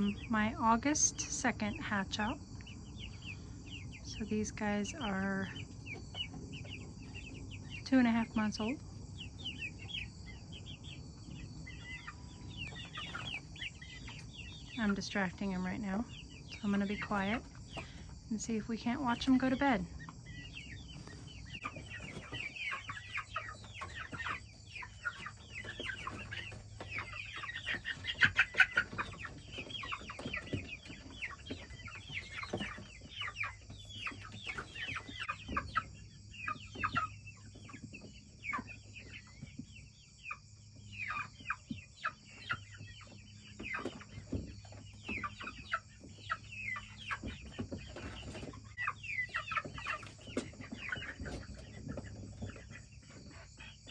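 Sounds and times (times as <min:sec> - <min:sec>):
young chickens clucking and peeping: 0:00.0 - 0:53.9.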